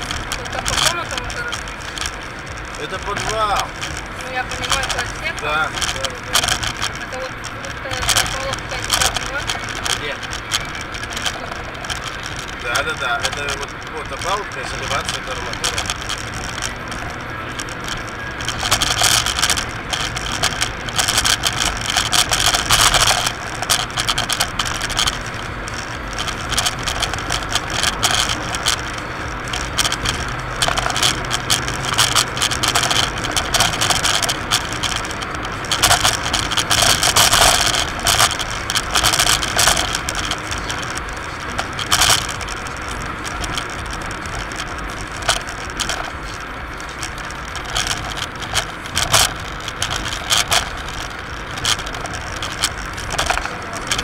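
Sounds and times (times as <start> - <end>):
clattering and rattling: 0.0 - 54.0
low engine hum: 0.0 - 54.0
road noise inside a car: 0.0 - 54.0.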